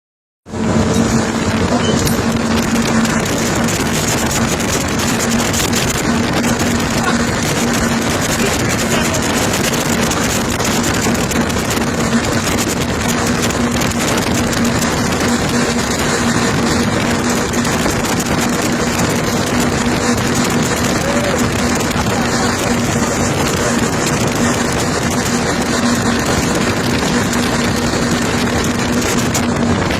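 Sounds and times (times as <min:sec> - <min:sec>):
speedboat engines droning: 0:00.5 - 0:29.9
wind and water rushing: 0:00.5 - 0:29.9.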